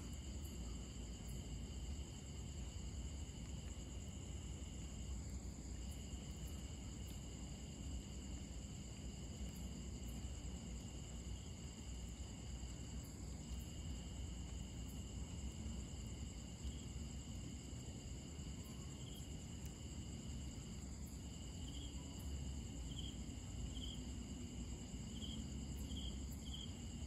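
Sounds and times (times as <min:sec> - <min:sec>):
insects trilling: 0:00.1 - 0:27.0.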